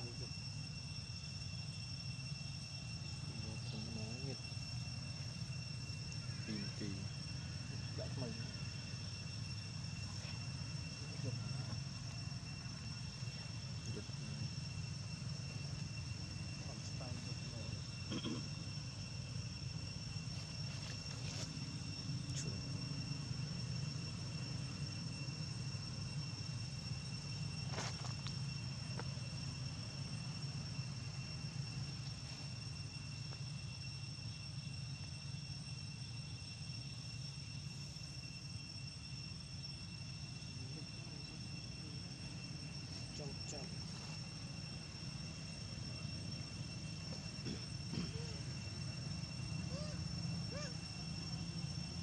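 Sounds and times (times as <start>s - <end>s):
crickets trilling: 0.0s - 52.0s
steady low hum: 0.0s - 52.0s.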